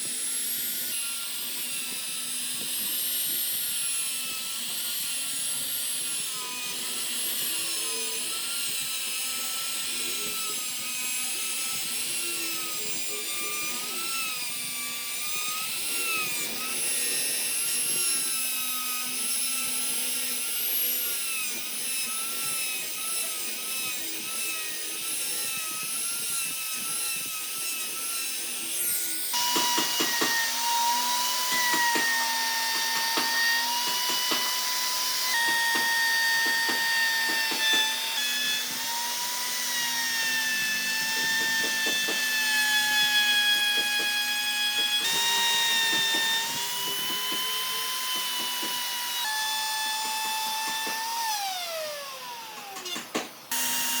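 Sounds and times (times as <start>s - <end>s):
power tool working wood: 0.0s - 54.0s.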